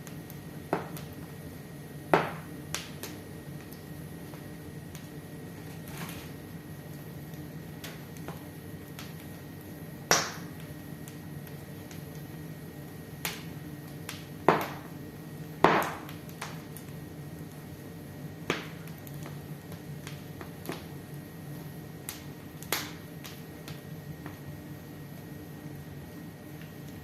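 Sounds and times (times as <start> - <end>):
fire pops and snaps: 0.0 - 27.0
wood fire crackling: 0.0 - 27.0.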